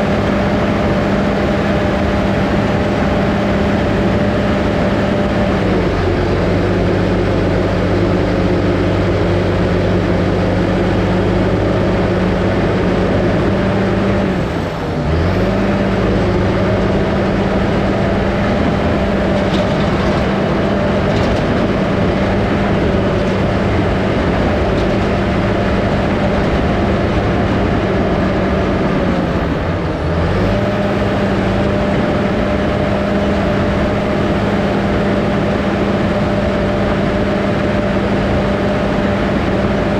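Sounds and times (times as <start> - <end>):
diesel dozer engine running: 0.0 - 39.9.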